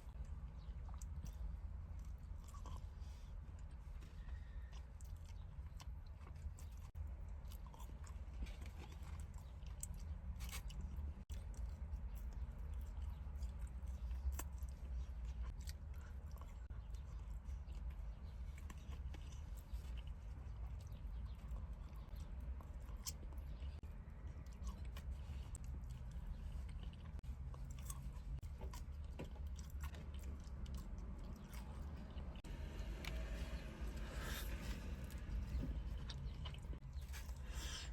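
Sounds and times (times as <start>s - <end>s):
chewing and crunching fried chicken: 0.0s - 37.9s
steady low hum: 0.0s - 37.9s.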